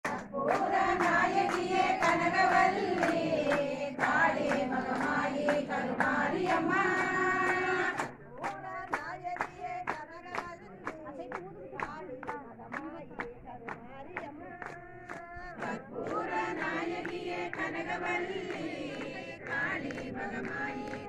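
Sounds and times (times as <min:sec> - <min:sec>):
group singing devotional song: 0:00.0 - 0:13.0, 0:14.2 - 0:21.0
hand claps keeping time: 0:00.0 - 0:21.0.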